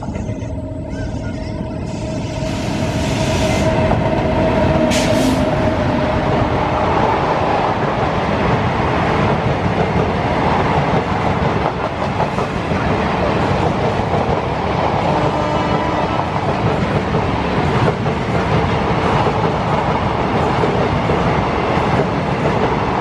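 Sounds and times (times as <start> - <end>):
train wheels on track: 0.0 - 23.0.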